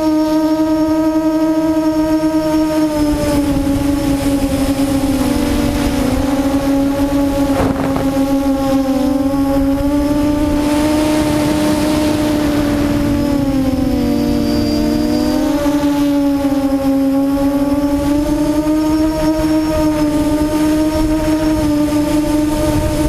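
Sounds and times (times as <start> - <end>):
quadcopter propellers droning: 0.0 - 23.0.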